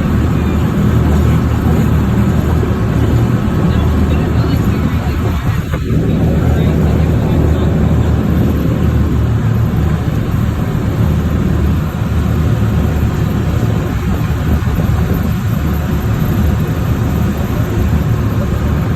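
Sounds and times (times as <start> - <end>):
boat engine droning: 0.0 - 18.9.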